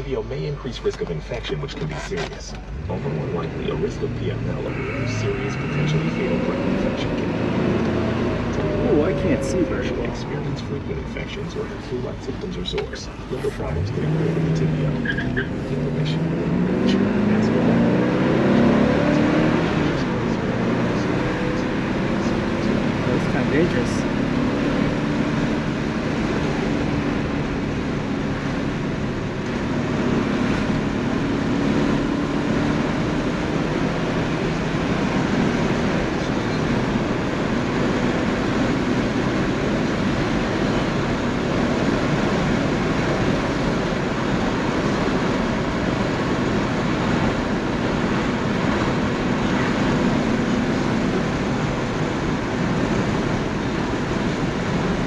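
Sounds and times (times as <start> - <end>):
car engine cruising: 0.0 - 55.0.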